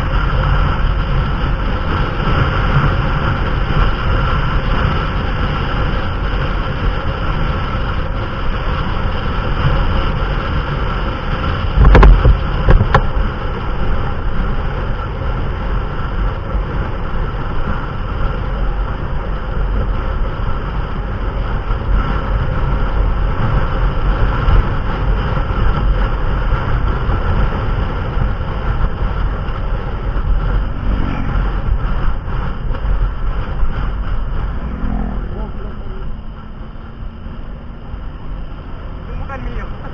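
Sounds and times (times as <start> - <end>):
rumbling wind noise: 0.0 - 39.9
vehicle engine running: 0.0 - 39.9.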